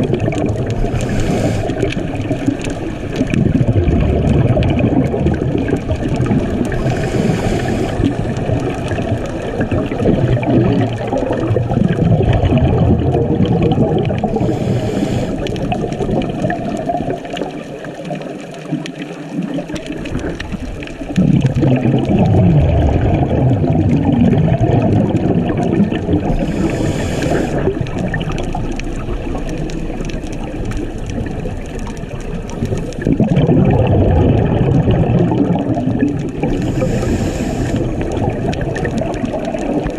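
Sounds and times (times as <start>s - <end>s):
muffled churning water underwater: 0.0s - 39.9s.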